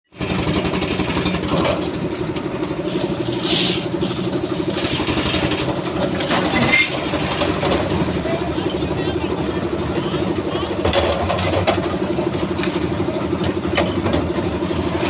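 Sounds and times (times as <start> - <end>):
motor engine running: 0.1 - 15.0.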